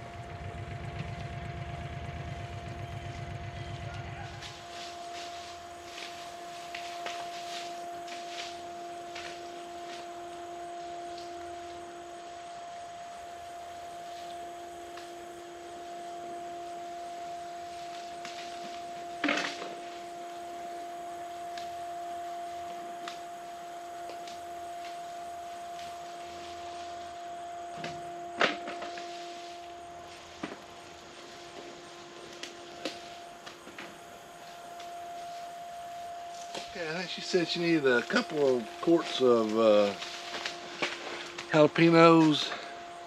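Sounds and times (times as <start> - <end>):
steady pitched hum: 0.0 - 43.0.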